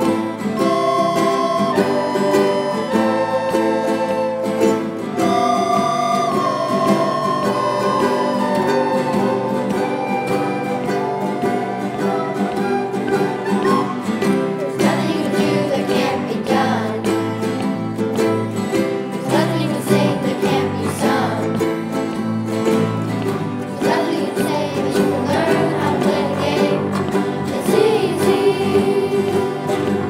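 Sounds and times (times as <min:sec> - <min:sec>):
recorder melody: 0:00.0 - 0:30.0
strummed guitar and ukulele chords: 0:00.0 - 0:30.0.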